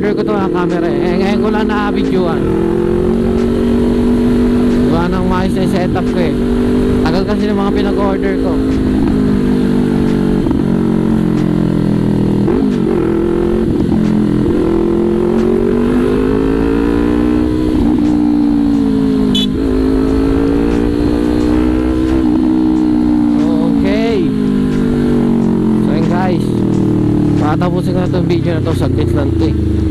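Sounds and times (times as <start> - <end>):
motorcycle engine cruising: 0.0 - 29.9.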